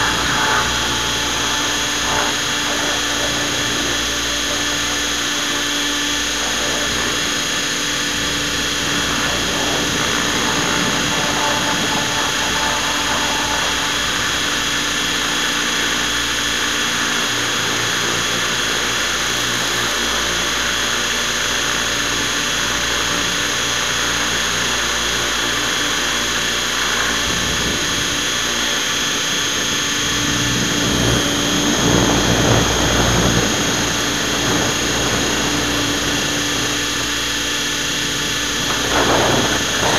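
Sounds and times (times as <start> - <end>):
model helicopter motor and rotor: 0.0 - 39.9
steady motor whine: 0.0 - 39.9.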